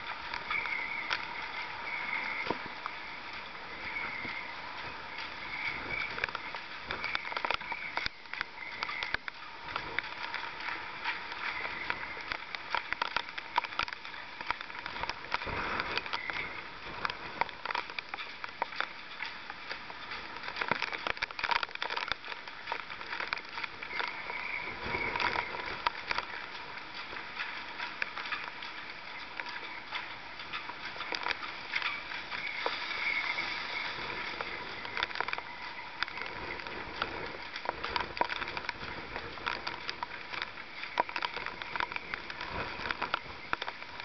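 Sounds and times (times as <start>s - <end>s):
moored yachts knocking and clacking: 0.0s - 44.0s
wind and surf hiss: 0.0s - 44.0s.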